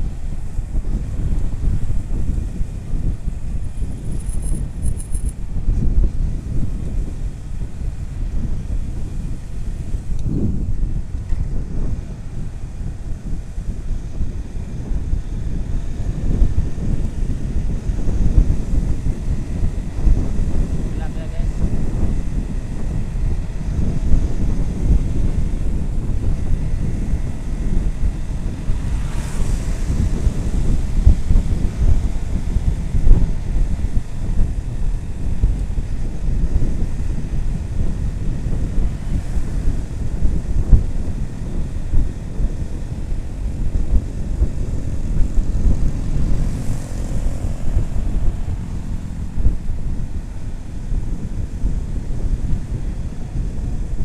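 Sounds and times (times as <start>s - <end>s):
motorcycle engine drone: 0.0s - 54.0s
road noise: 0.0s - 54.0s
wind buffeting microphone: 0.0s - 54.0s.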